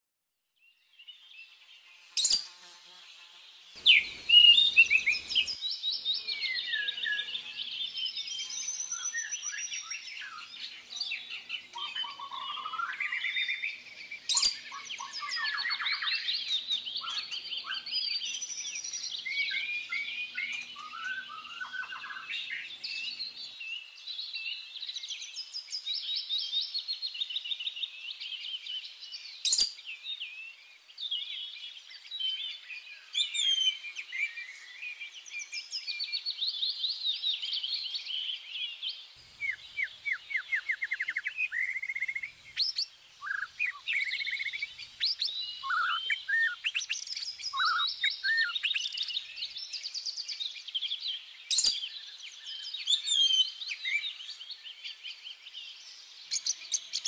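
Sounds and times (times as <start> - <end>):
small birds chirping: 0.6 - 57.0.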